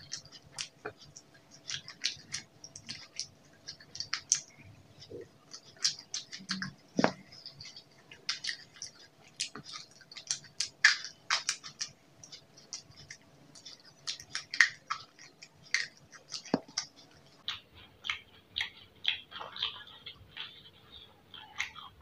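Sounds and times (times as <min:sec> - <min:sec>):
crunchy chewing: 0:00.0 - 0:22.0.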